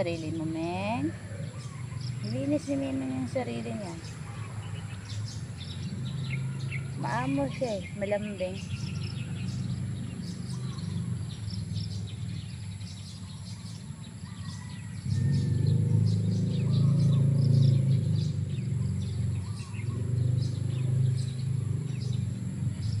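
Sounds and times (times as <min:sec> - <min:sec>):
low steady rumble: 0:00.0 - 0:23.0
small birds chirping: 0:00.0 - 0:23.0.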